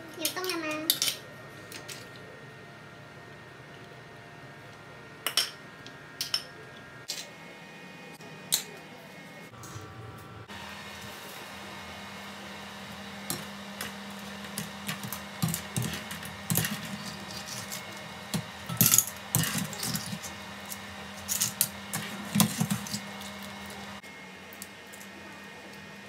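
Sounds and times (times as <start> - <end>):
induction cooker hum: 0.0 - 26.0.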